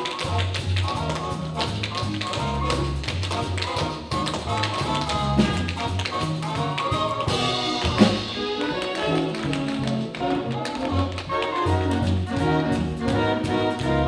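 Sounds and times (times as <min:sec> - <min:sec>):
band music: 0:00.0 - 0:14.0
tap shoes on stage: 0:00.0 - 0:14.0.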